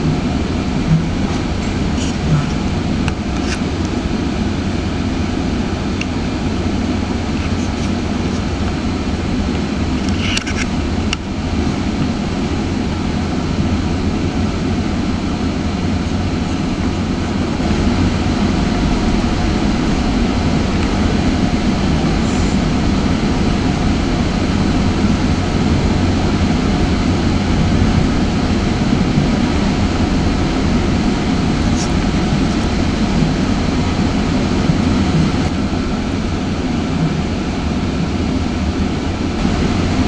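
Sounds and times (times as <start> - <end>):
train wheels on rails rumbling: 0.0 - 40.0.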